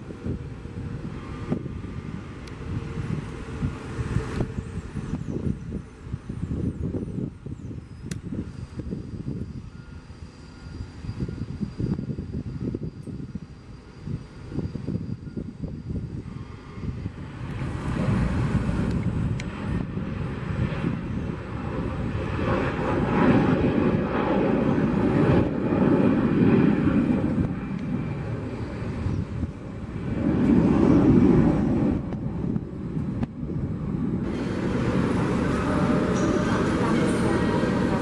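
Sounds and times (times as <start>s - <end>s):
jet airliners taking off: 0.0s - 38.0s.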